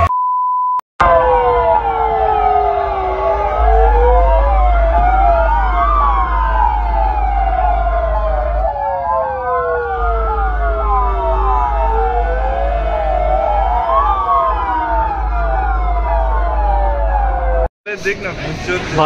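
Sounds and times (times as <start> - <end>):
siren yelp sweeps: 1.0 - 17.7
siren wailing: 1.0 - 19.0.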